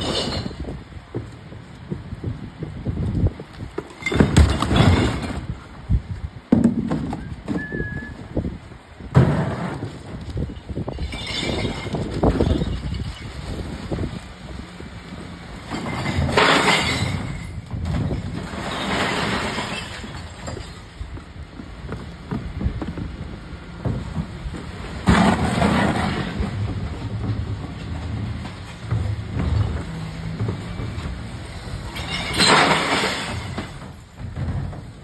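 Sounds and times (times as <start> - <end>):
bins clattering and banging: 0.0 - 2.1, 3.7 - 5.7, 6.5 - 8.2, 9.0 - 14.6, 15.2 - 35.0
truck engine rumble: 0.0 - 35.0.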